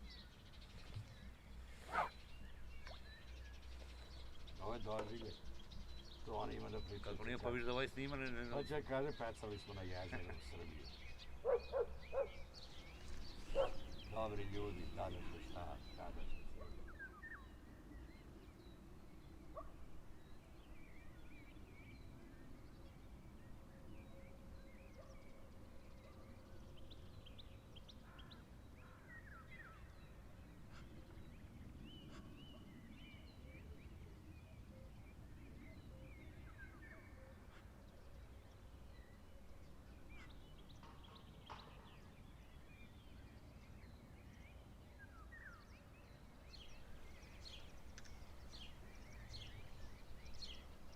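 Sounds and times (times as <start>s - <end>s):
faint bird chirps: 0.0s - 50.9s
low steady background noise: 0.0s - 50.9s.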